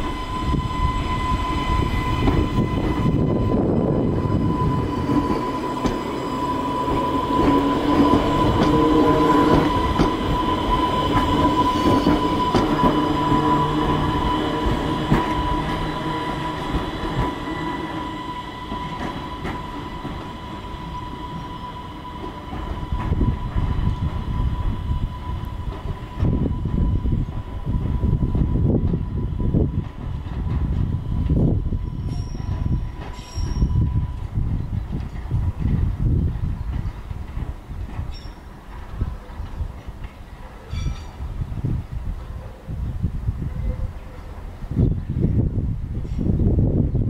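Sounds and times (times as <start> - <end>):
electric train rumbling with whine: 0.0 - 47.0.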